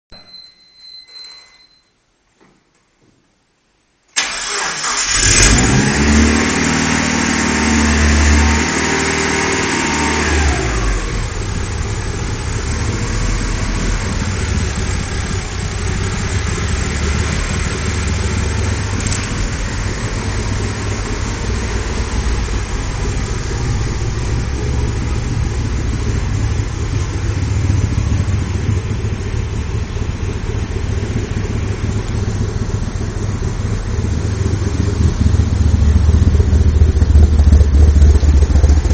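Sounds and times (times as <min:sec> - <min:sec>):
car engine starting and idling: 0:04.1 - 0:38.9.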